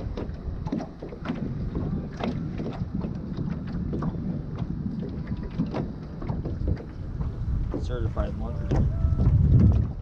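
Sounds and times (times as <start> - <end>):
waves slapping boat hull: 0.0 - 10.0
wind buffeting microphone: 0.0 - 10.0.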